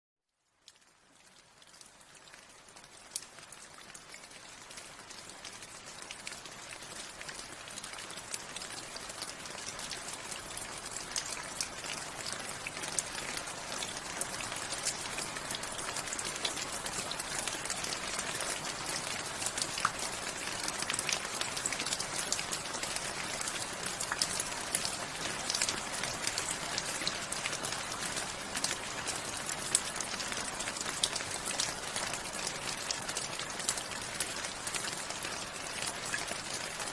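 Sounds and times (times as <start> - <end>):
raindrops pattering on a surface: 0.3 - 36.9.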